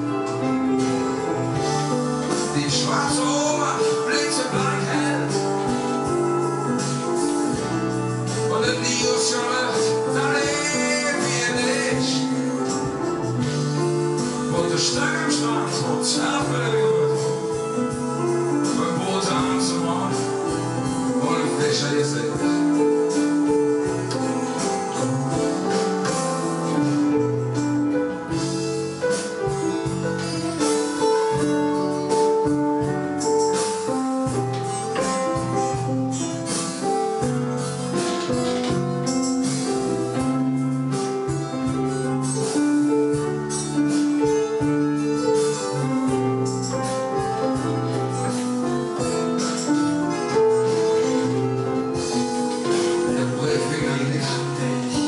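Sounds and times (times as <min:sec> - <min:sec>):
keyboard and piano music: 0:00.0 - 0:55.0.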